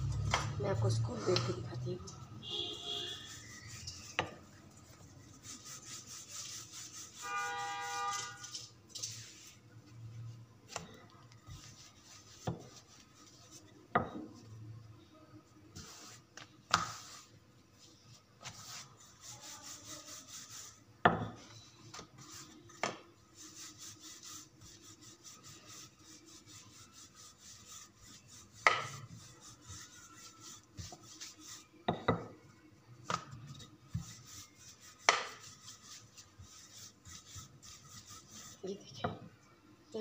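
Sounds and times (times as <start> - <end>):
rolling pin rubbing on dough: 2.4 - 10.8, 11.4 - 14.5, 15.7 - 32.3, 33.1 - 39.2.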